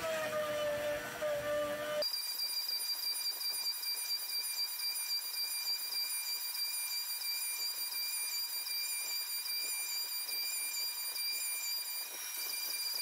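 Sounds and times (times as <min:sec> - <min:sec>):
cnc router spindle whine: 0:00.0 - 0:13.0.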